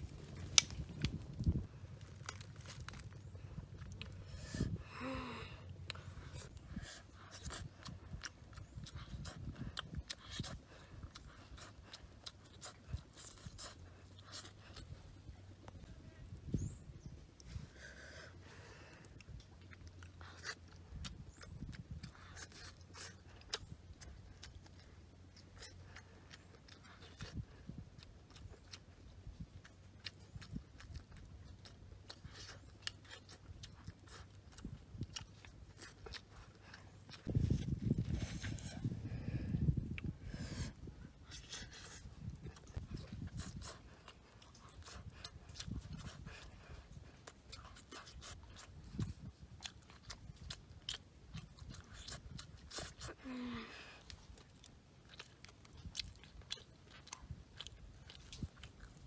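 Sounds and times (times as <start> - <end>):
person chewing and biting food: 0.0 - 16.8, 19.0 - 59.0.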